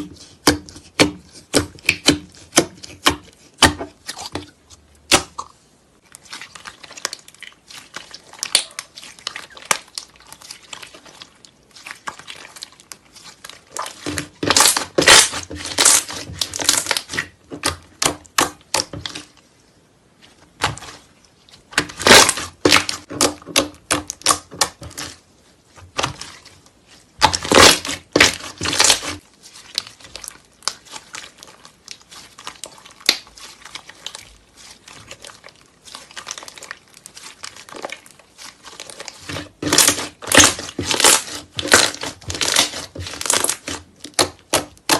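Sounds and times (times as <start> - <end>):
slime crackling and popping: 5.1 - 19.4, 20.5 - 25.2, 25.8 - 44.9.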